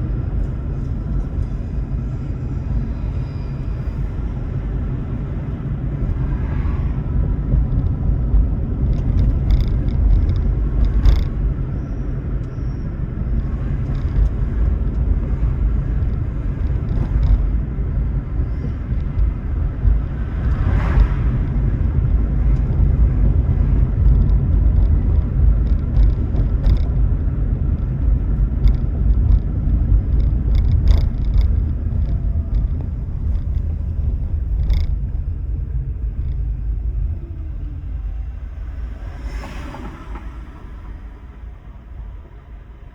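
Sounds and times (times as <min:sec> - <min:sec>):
road and tyre rumble: 0:00.0 - 0:42.9.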